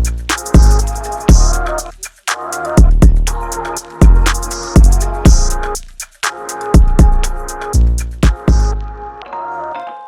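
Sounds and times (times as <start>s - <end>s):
electronic music with heavy bass drum: 0.0s - 9.2s.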